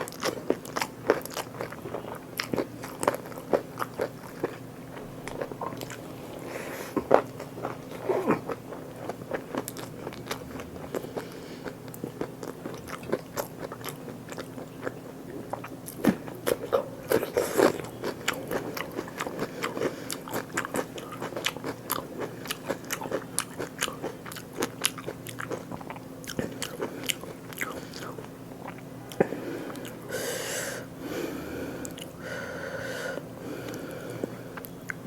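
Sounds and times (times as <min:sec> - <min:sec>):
person chewing food: 0:00.0 - 0:30.3, 0:31.8 - 0:32.2, 0:33.4 - 0:35.0.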